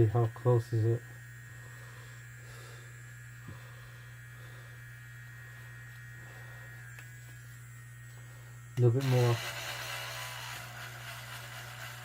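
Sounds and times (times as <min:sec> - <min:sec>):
electric sander humming: 0:00.0 - 0:12.0.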